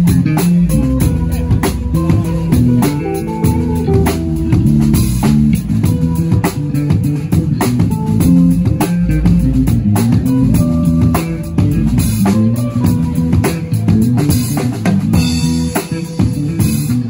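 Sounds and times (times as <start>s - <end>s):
amplified guitar: 0.0s - 17.0s
drum kit beat: 0.0s - 17.0s.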